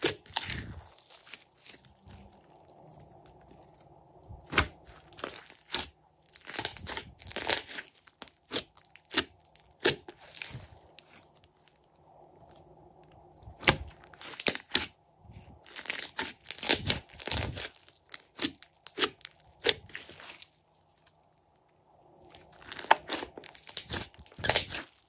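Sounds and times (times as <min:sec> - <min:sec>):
slime crackling and popping: 0:00.0 - 0:03.8, 0:04.4 - 0:11.9, 0:13.6 - 0:14.9, 0:15.6 - 0:20.6, 0:22.3 - 0:25.0.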